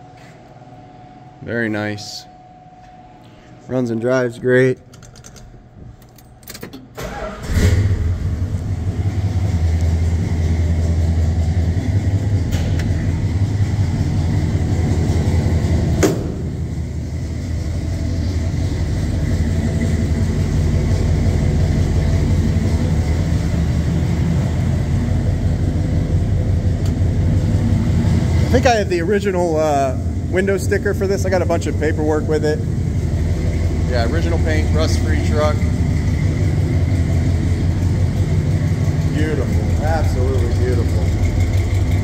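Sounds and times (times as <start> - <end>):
engine cranking and idling: 4.7 - 42.0.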